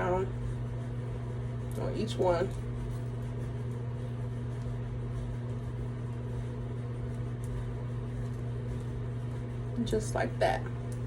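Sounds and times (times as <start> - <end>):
low electrical fan hum: 0.0 - 11.0.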